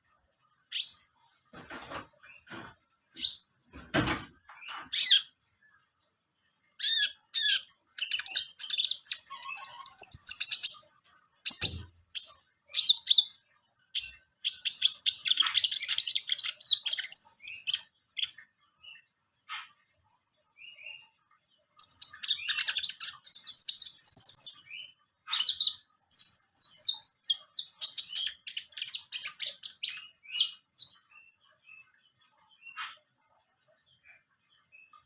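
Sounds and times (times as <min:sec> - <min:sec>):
small bird chirping and twittering: 0:00.6 - 0:03.5, 0:04.5 - 0:05.4, 0:06.8 - 0:19.8, 0:20.5 - 0:35.0.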